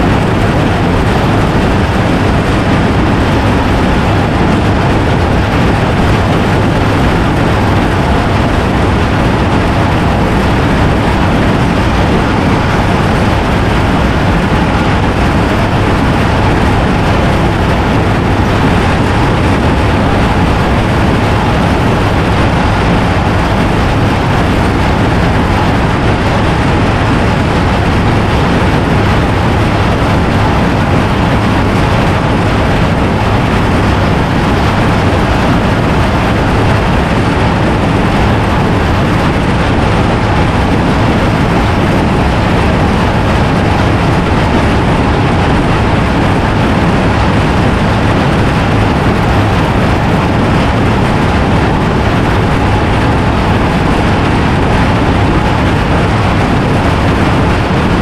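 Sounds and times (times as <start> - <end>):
baler machinery running: 0.0 - 58.0.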